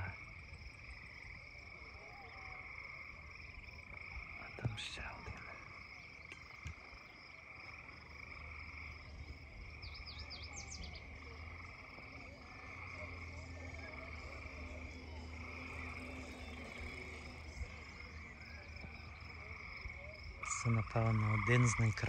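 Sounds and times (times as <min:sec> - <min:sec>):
frogs calling in chorus: 0:00.0 - 0:22.0.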